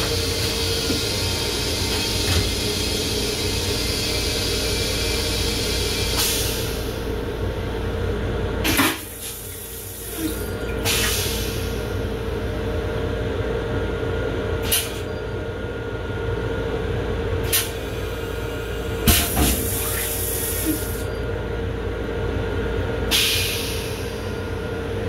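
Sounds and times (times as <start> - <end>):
railcar hum and rumble: 0.0 - 25.0.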